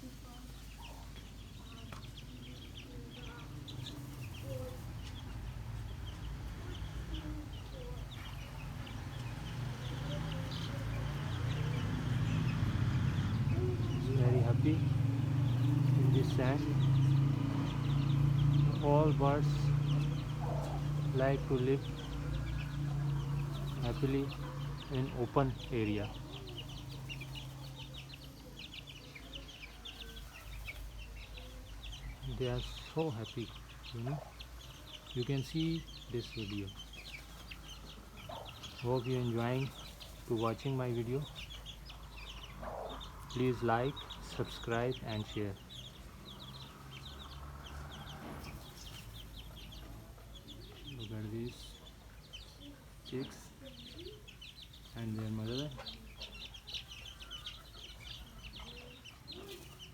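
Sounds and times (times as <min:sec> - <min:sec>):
chicks peeping: 0:00.0 - 0:59.9
hen clucking: 0:00.4 - 0:59.9.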